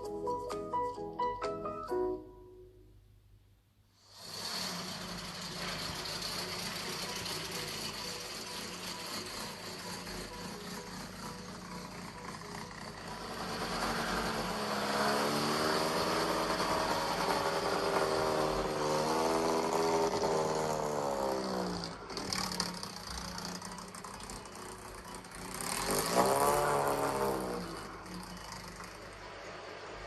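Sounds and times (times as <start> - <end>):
car engine revving: 4.0 - 30.0.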